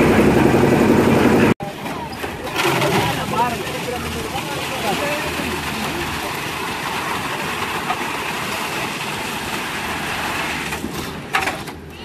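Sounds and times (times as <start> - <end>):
concrete mixer and hoist running: 0.0 - 12.0.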